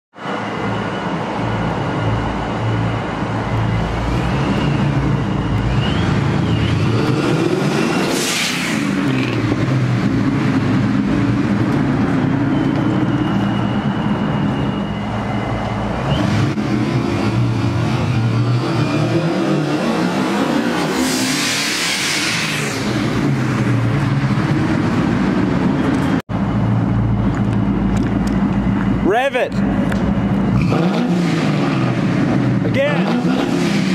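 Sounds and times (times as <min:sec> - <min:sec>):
car engine rumbling: 0:00.2 - 0:33.9
supercharger whine: 0:00.2 - 0:33.9.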